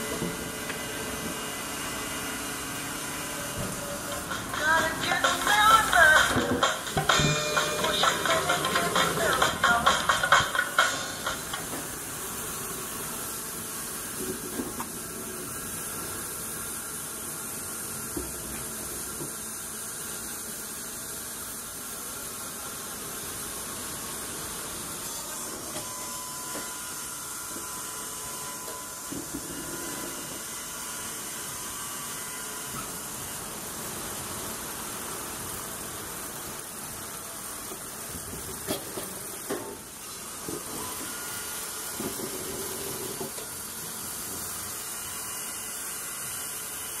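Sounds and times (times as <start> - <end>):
sawmill machinery running: 0.0 - 47.0.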